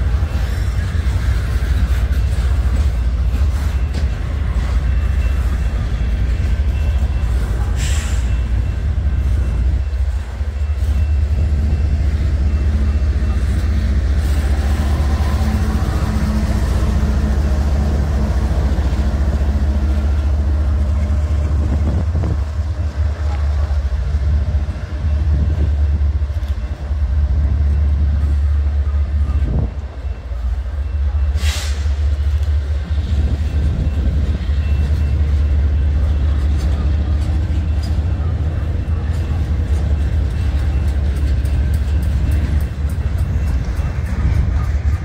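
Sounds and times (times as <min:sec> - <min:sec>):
train rumbling by: 0:00.0 - 0:45.0.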